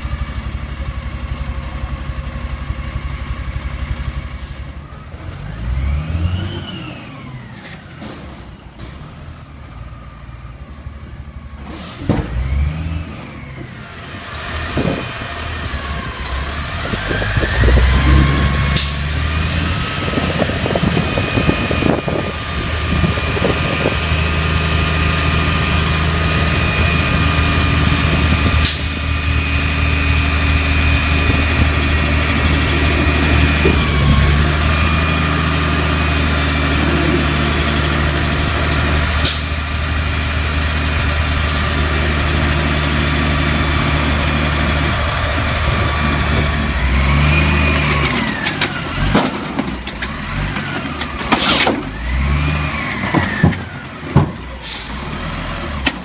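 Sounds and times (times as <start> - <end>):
diesel engine idling: 0.0 - 6.0, 12.6 - 56.0.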